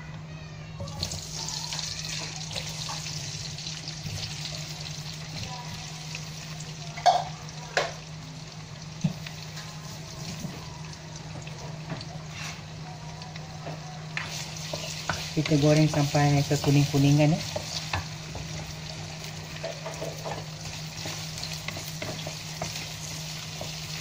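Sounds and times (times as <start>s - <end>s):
potatoes sizzling in hot oil: 0.9s - 24.0s.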